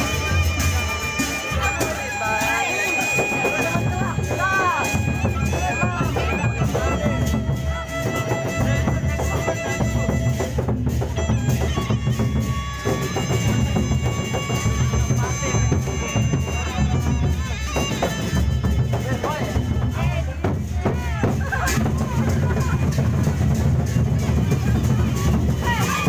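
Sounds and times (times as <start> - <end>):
gongs and cymbals: 0.0 - 26.0
large drums beating: 0.0 - 26.0.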